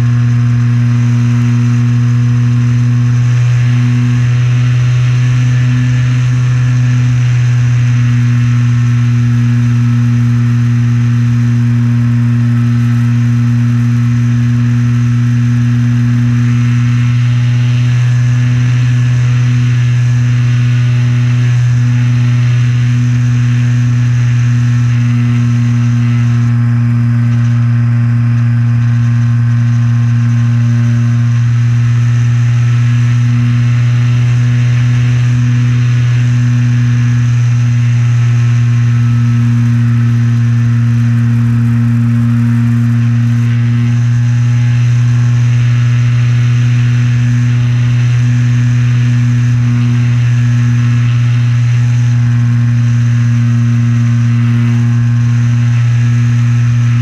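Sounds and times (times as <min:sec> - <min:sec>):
electric motor and propeller drone: 0:00.0 - 0:57.0.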